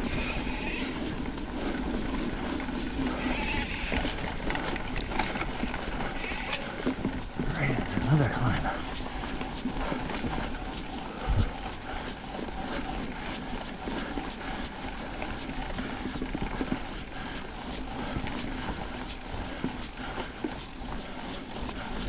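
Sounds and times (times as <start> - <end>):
bike tyres rolling on dirt trail: 0.0 - 22.0.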